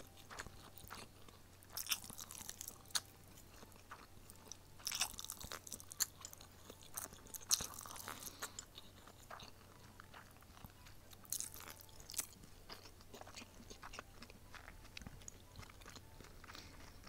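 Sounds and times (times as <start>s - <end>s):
person chewing with wet smacks: 0.0s - 17.0s
steady low hum: 0.0s - 17.0s.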